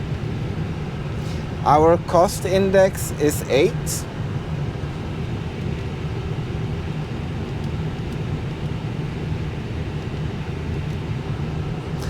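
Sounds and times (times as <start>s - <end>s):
cockpit fans droning: 0.0s - 12.0s.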